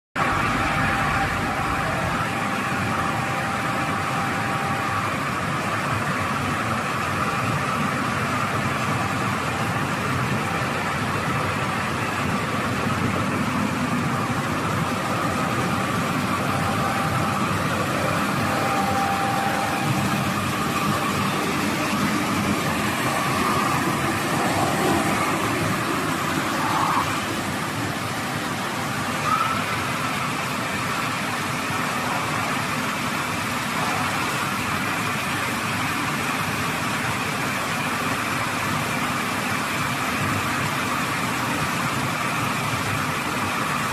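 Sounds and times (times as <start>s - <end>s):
machine humming: 0.2s - 38.4s.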